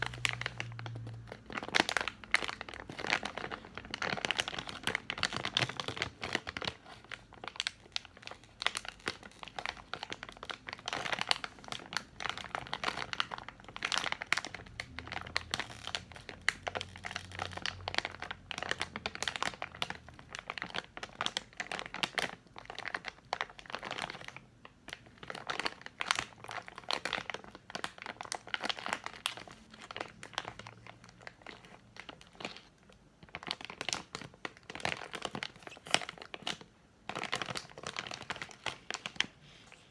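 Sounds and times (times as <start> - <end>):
candy packaging crinkling: 0.0 - 39.9.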